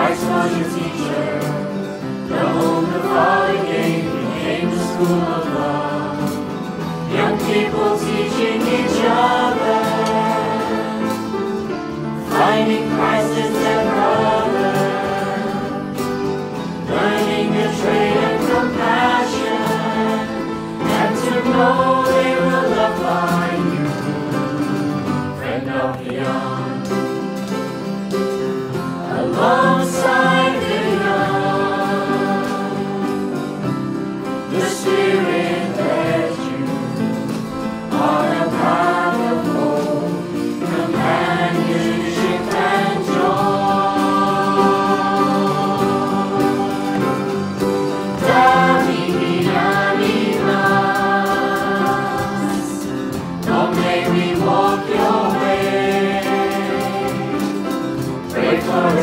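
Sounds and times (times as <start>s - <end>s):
acoustic guitar piano and drums: 0.0s - 59.0s
choir singing worship song: 0.0s - 59.0s.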